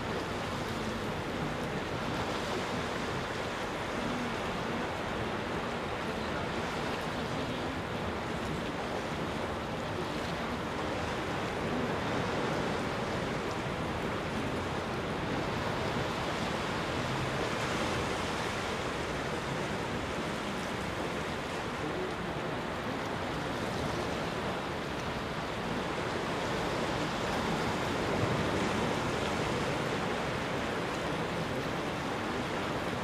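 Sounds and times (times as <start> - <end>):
surf washing against rocks: 0.0 - 33.0
wind: 0.0 - 33.0.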